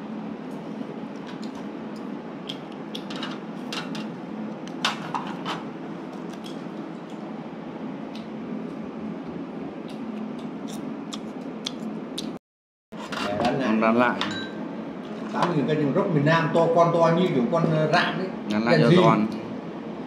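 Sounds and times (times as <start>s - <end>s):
room hum: 0.0s - 20.0s.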